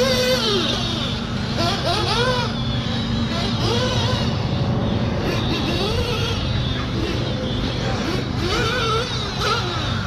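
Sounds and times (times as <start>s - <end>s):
small nitro engines revving: 0.0s - 10.0s.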